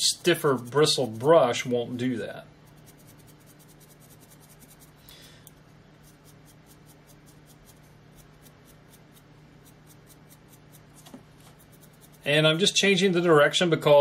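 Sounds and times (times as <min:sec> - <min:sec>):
bristle brush scratching: 0:00.0 - 0:13.6
steady low hum: 0:00.0 - 0:14.0.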